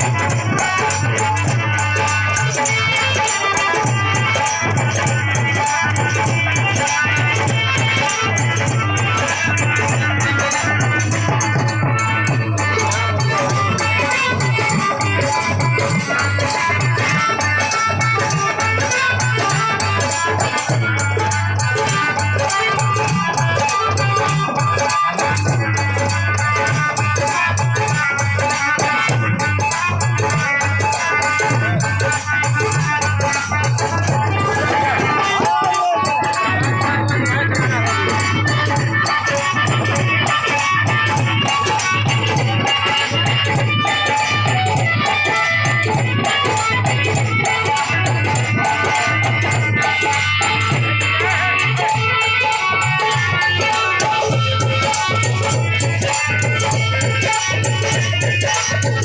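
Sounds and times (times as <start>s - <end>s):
dhol drum beat: 0.0s - 59.0s
harmonium notes: 0.0s - 59.0s
rapid high percussion strokes: 0.0s - 59.0s.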